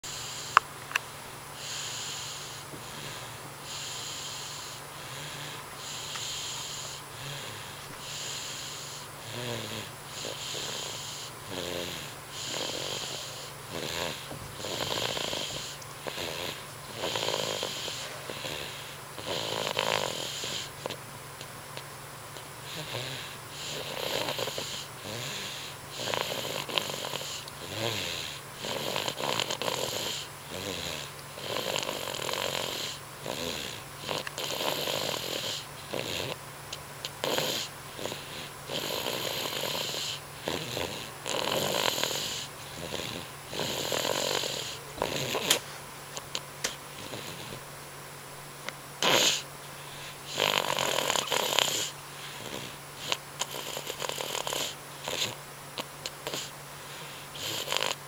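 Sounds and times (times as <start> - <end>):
raspy wheezy snoring: 0.0 - 0.6, 1.6 - 21.0, 22.3 - 36.4, 37.1 - 47.7, 49.0 - 58.0.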